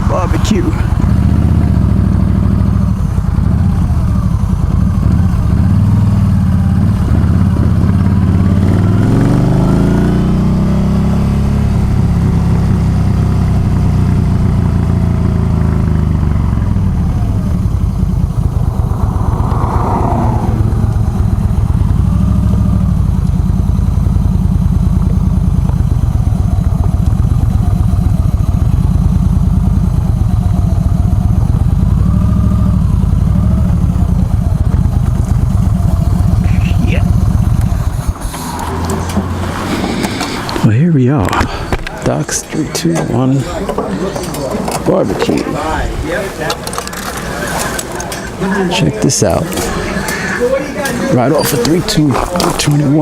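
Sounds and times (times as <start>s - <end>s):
motorcycle engine accelerating: 0.0s - 48.7s, 49.5s - 53.0s.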